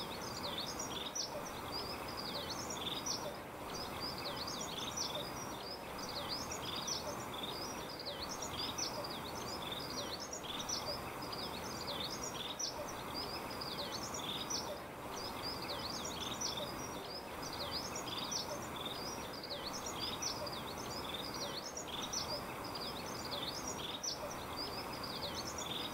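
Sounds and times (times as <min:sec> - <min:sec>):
birds chirping: 0:00.0 - 0:25.9
steady background hiss: 0:00.0 - 0:25.9.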